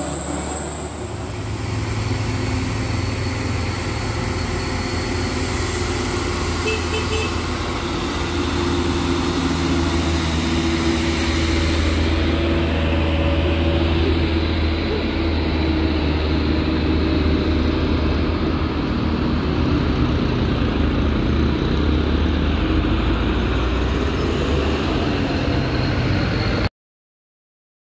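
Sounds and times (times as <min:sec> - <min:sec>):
diesel trucks passing: 0:00.0 - 0:26.7
road noise: 0:00.0 - 0:26.7.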